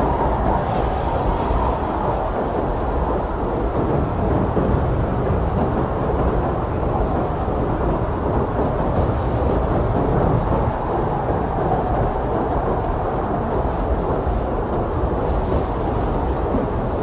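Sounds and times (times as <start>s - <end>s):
blizzard wind roaring: 0.0s - 17.0s.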